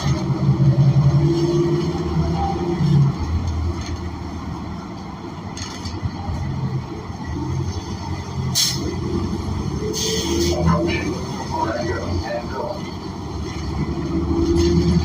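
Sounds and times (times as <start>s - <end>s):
bus engine low hum: 0.0s - 15.0s.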